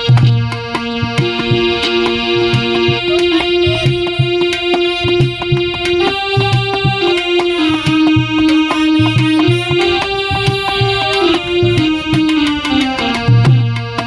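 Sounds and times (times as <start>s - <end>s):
hand drum beat: 0.0s - 14.0s
reedy keyboard melody: 0.0s - 14.0s.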